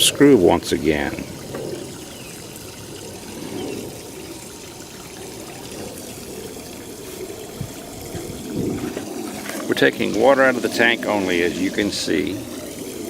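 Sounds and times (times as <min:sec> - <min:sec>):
water running in a stream: 0:00.0 - 0:13.0.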